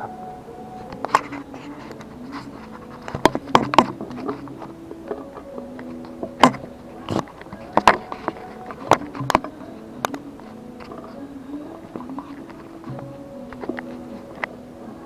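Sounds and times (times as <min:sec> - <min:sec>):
faint background tune: 0:00.0 - 0:15.0.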